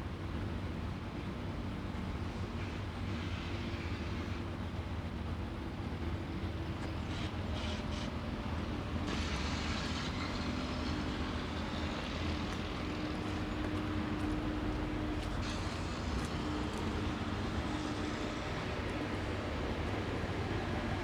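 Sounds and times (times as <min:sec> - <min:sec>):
faint engine hum: 0:00.0 - 0:21.0
low rumble of city traffic: 0:00.0 - 0:21.0.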